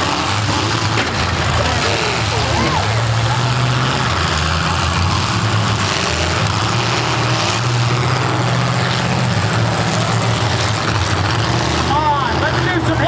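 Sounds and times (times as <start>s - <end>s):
car engines revving loudly: 0.0s - 13.0s.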